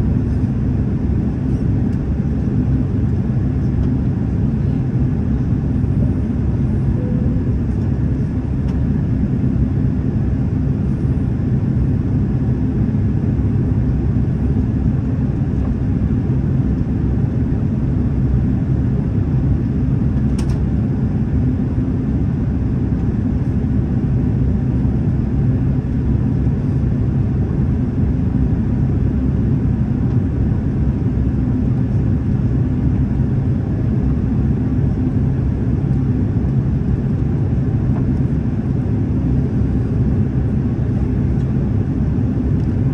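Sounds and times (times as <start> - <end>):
airliner engines rumbling: 0.0 - 42.9.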